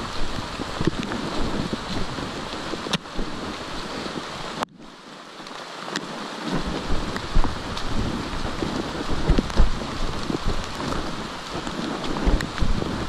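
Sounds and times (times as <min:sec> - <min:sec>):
low thumps on microphone: 0:00.0 - 0:04.3, 0:06.5 - 0:13.0
rain on foliage: 0:00.0 - 0:13.0.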